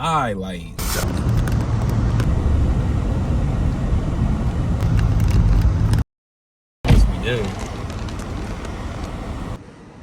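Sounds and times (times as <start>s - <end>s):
car rumbling on road: 0.7s - 6.0s, 6.9s - 10.0s.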